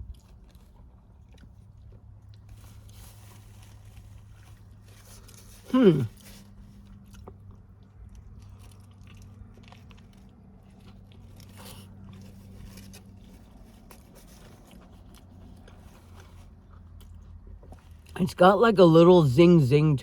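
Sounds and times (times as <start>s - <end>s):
person chewing food: 0.0s - 18.2s
low steady hum: 0.0s - 20.0s.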